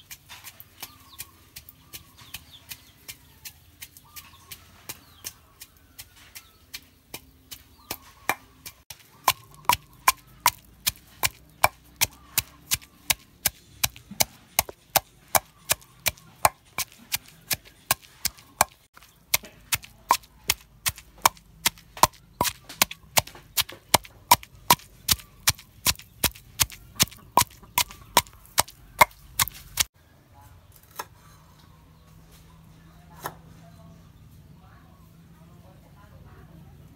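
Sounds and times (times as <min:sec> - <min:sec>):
pestle pounding in stone mortar: 0:00.0 - 0:29.9.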